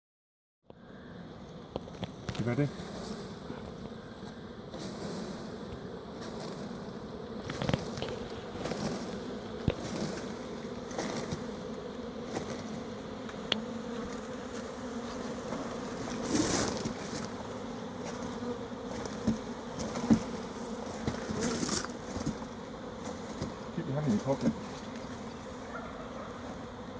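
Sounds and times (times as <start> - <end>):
bee swarm buzzing: 0.7 - 26.9.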